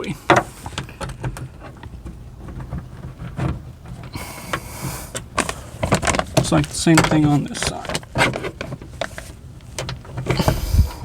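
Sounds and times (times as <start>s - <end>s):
short rustle: 1.6s - 11.0s.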